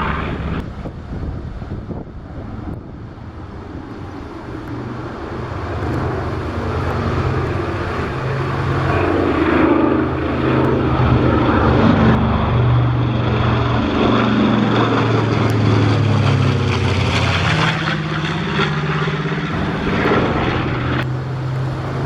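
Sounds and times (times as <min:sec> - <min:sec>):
twin propeller aircraft engines droning: 0:00.0 - 0:22.0.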